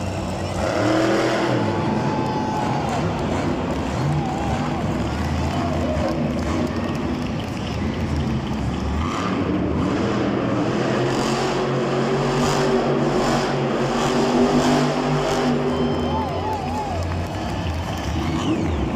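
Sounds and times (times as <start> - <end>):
monster truck engine revving: 0.0 - 18.9.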